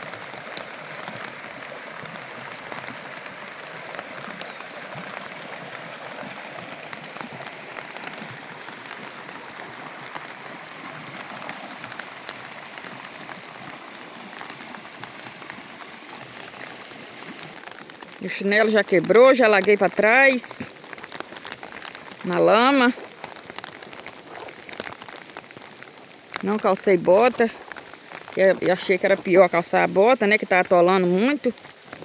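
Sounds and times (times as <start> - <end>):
flooded creek rushing: 0.0 - 32.0
heavy rain falling: 0.0 - 32.0.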